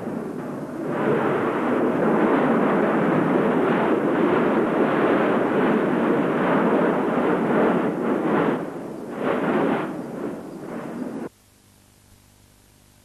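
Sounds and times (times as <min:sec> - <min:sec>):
volcano rumbling: 0:00.0 - 0:11.3.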